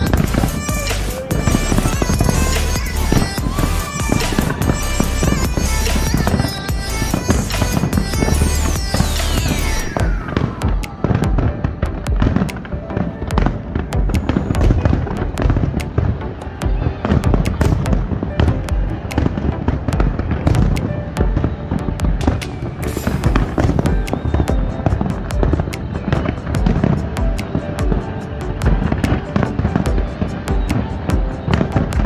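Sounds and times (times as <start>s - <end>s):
falling firework whistle: 0.0s - 32.0s
fireworks bangs and crackles: 0.0s - 32.0s
music playing: 0.0s - 32.0s.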